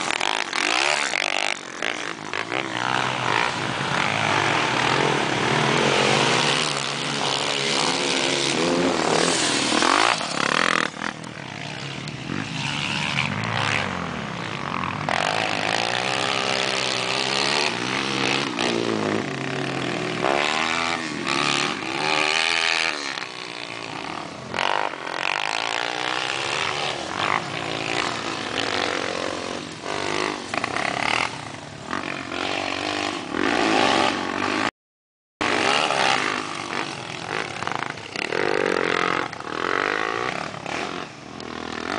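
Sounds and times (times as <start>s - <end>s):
motocross engines revving: 0.0s - 34.7s, 35.4s - 41.9s.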